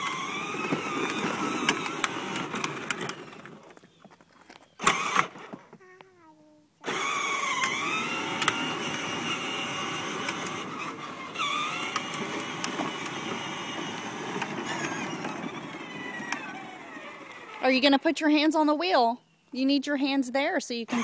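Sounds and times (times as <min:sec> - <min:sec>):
vehicle motor whining: 0:00.0 - 0:06.1, 0:06.8 - 0:18.0.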